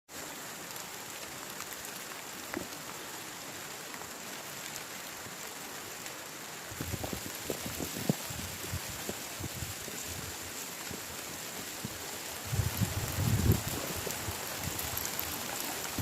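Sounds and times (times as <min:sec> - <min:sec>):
heavy rain falling: 0:00.1 - 0:16.0.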